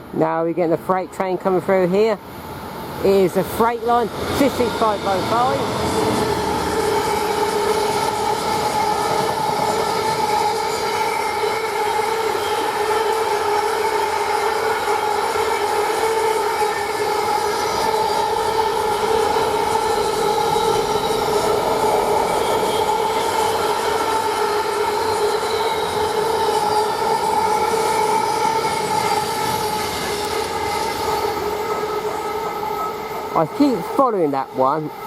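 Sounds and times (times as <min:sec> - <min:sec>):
train wheels rumbling on rails: 0:01.2 - 0:35.0
steady ringing tone: 0:01.5 - 0:35.0.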